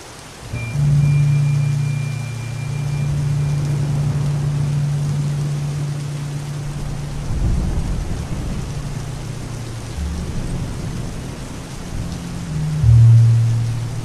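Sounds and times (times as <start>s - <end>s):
rain on car windshield: 0.0s - 14.0s
thunder rumbling: 0.5s - 14.0s.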